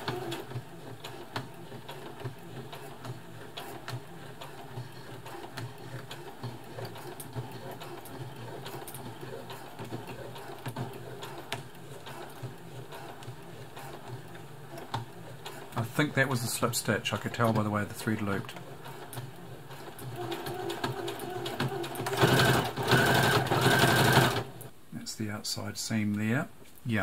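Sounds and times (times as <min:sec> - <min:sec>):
sewing machine motor hum: 0:00.0 - 0:24.7.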